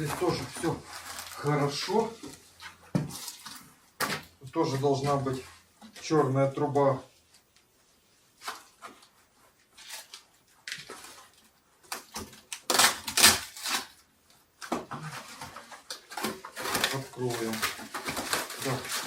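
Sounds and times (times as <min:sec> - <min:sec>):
packaging rustling and scraping: 0:00.0 - 0:06.1, 0:08.3 - 0:14.0, 0:14.6 - 0:19.0.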